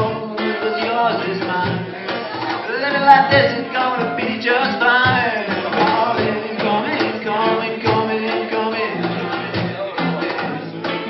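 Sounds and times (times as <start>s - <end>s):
cajon and drum beats: 0.0s - 11.0s
live band playing: 0.0s - 11.0s.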